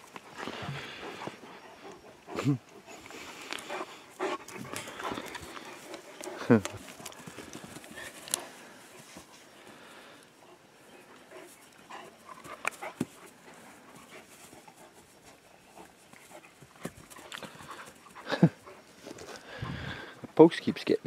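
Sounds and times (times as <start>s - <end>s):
puppy panting: 0.2s - 9.3s, 10.4s - 20.4s.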